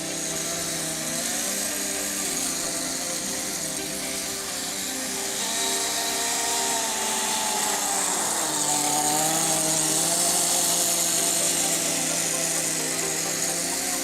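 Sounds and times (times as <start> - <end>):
small nitro engine buzzing: 0.0 - 14.0.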